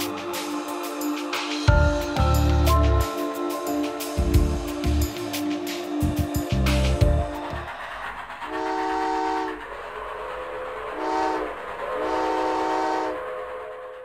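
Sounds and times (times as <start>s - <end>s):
steady rushing background: 0.0s - 14.0s.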